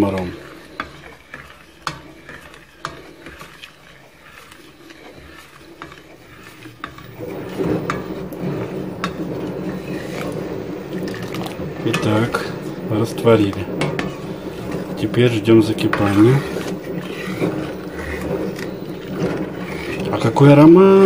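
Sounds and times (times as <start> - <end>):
spoon stirring with scraping swish: 0.0 - 21.0.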